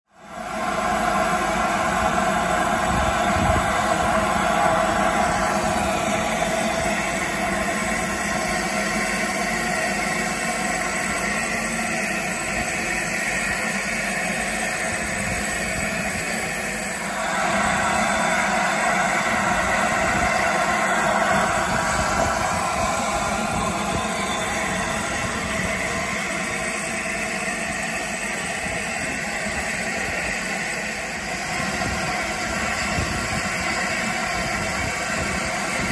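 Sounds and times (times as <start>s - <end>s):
steam locomotive hissing: 0.2s - 35.9s.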